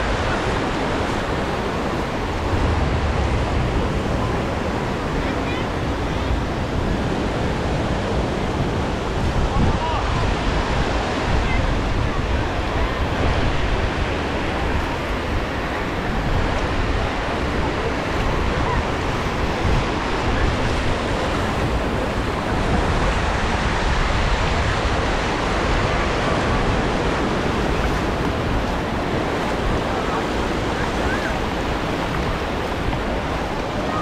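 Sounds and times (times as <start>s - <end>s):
indistinct crowd chatter: 0.0s - 34.0s
surf washing onto beach: 0.0s - 34.0s
wind rumbling on microphone: 0.0s - 34.0s.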